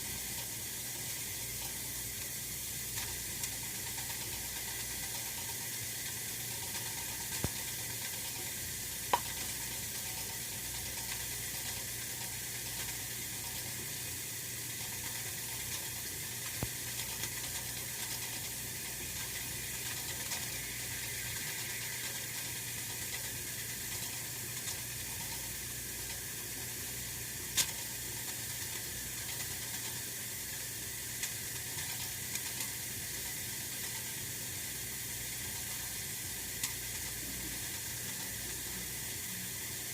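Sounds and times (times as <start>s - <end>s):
heater ticking: 0.0s - 39.9s
radiator heater hissing and humming: 0.0s - 39.9s.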